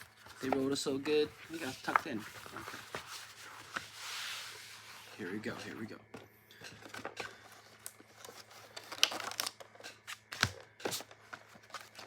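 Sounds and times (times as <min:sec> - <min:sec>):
cardboard and wrapping rustling: 0:00.0 - 0:06.0, 0:06.7 - 0:12.0.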